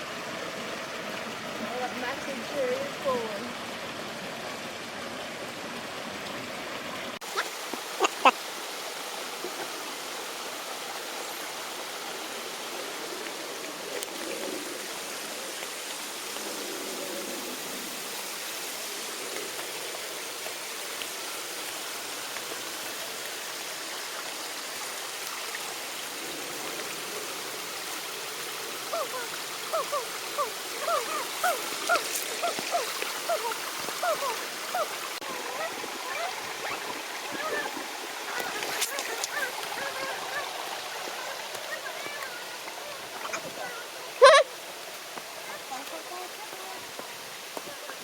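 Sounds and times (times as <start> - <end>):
stream water flowing: 0.0 - 48.0.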